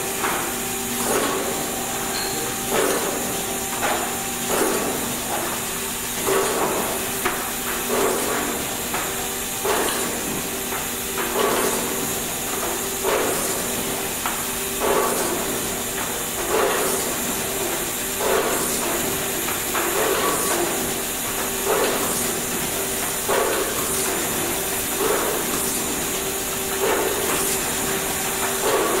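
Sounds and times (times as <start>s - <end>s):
printer machine clack: 0.0s - 29.0s
steady machine hum: 0.0s - 29.0s.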